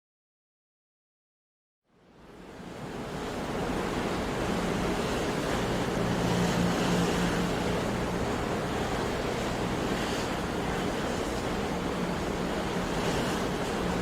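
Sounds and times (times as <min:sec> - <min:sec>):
waves washing on a shore: 0:02.1 - 0:14.0.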